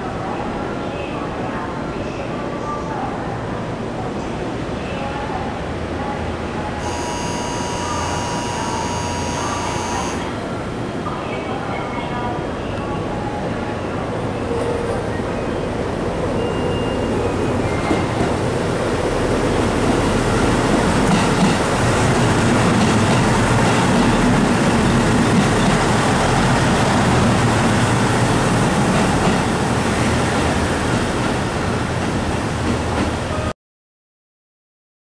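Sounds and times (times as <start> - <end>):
diesel train passing: 0.0 - 33.5.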